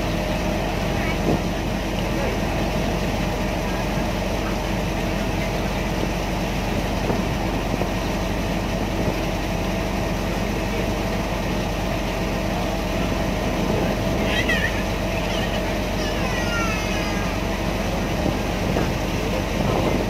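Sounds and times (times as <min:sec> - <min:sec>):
ferry engine humming: 0:00.0 - 0:20.0.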